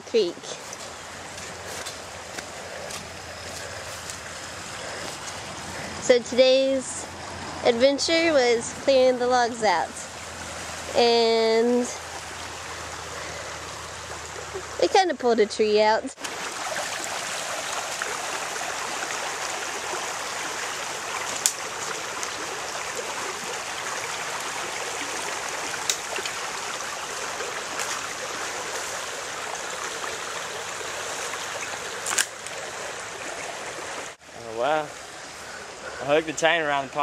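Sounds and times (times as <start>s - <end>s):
creek water rushing: 0.0s - 37.0s.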